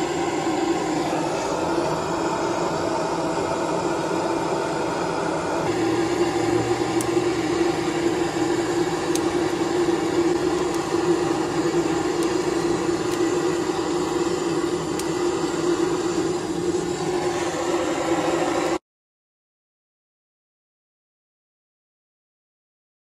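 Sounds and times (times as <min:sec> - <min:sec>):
gas torch roaring: 0:00.0 - 0:18.8.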